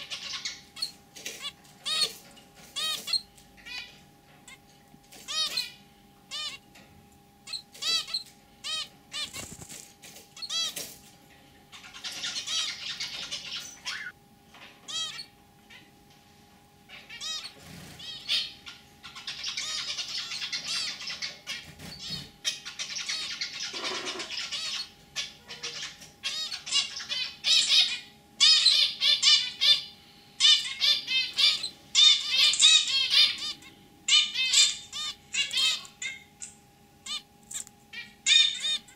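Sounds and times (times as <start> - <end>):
finches calling and singing: 0.0 - 6.6, 7.4 - 10.9, 11.7 - 14.2, 14.8 - 15.9, 16.9 - 38.9.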